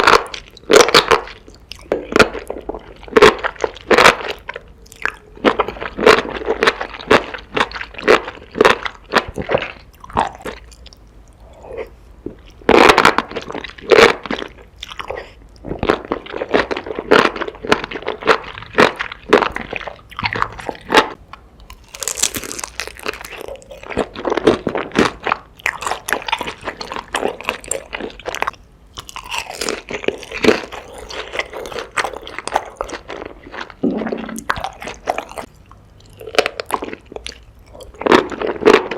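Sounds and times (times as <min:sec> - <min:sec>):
crunchy chewing of food: 0:00.0 - 0:38.9.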